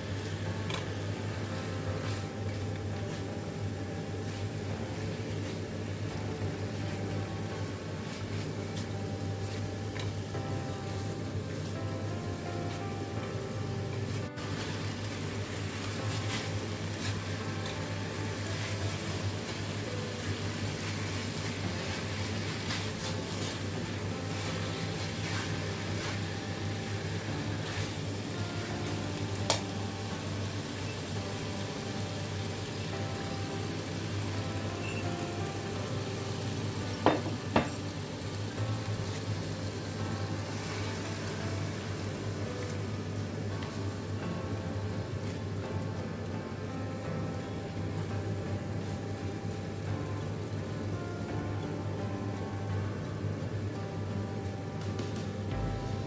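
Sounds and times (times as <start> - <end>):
chicken frying in a wok: 0.0 - 56.0
steady low hum: 0.0 - 56.0.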